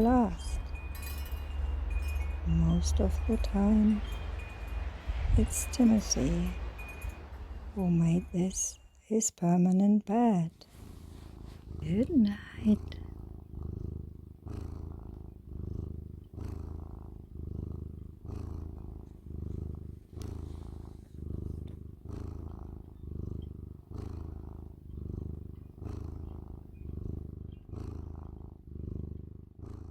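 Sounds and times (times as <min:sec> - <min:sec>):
cat purring: 0:00.0 - 0:29.9.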